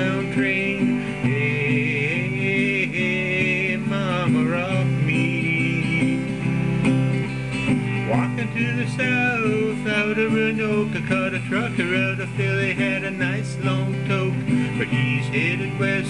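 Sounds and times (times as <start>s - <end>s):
acoustic guitar: 0.0s - 16.0s
bending lead melody: 0.0s - 16.0s
country bluegrass instrumental: 0.0s - 16.0s.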